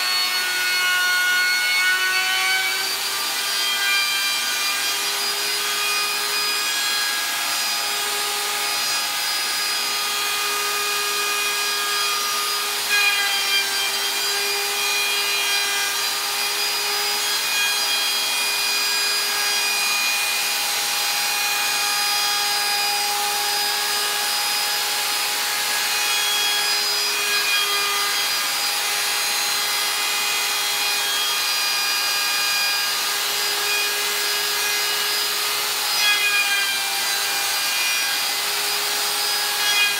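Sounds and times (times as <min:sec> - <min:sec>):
electric router whining: 0:00.0 - 0:39.9
router bit cutting plastic: 0:00.0 - 0:39.9.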